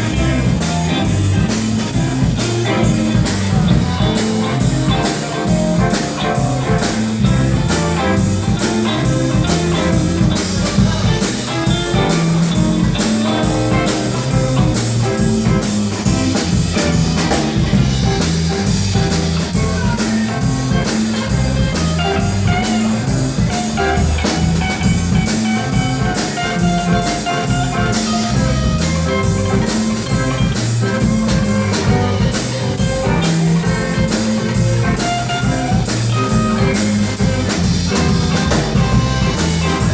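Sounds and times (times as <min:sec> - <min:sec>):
bass line: 0:00.0 - 0:39.9
blues guitar: 0:00.0 - 0:39.9
drum kit with cymbal beat: 0:00.0 - 0:39.9.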